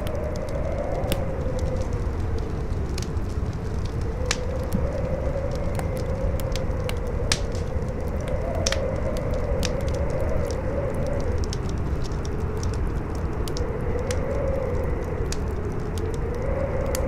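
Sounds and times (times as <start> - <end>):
campfire crackling: 0.0 - 17.0
howling wind: 0.0 - 17.0
strong wind rumble: 0.0 - 17.0.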